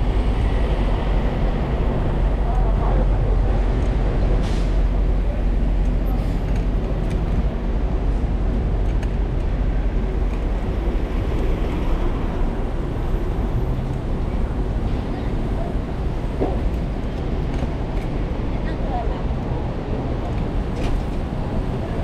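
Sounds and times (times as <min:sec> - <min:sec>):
city street noise: 0:00.0 - 0:22.0
wind rumble on microphone: 0:00.0 - 0:22.0.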